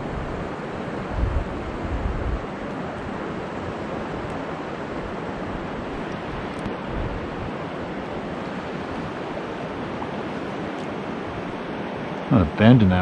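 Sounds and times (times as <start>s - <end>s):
wind buffeting microphone: 0.0s - 11.6s
river current rushing: 0.0s - 13.0s.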